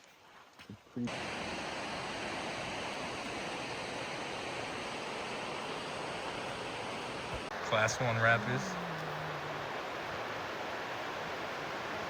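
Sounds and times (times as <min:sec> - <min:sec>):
water rushing over rocks: 0:01.1 - 0:12.0.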